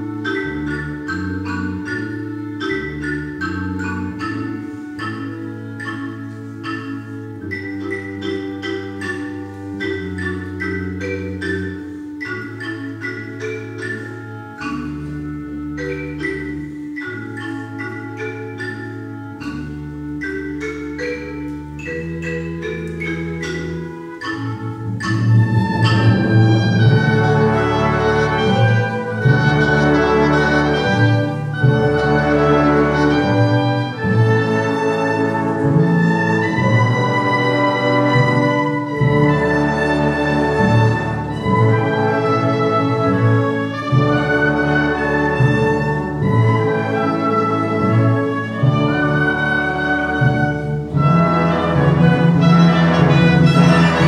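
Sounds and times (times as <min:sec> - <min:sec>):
symphony orchestra playing: 0:00.0 - 0:54.0.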